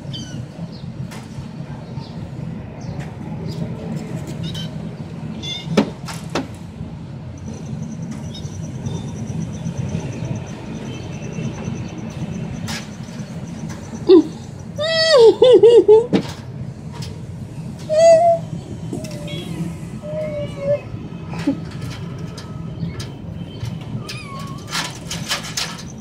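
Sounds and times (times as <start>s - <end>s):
low background rumble: 0.0s - 26.0s.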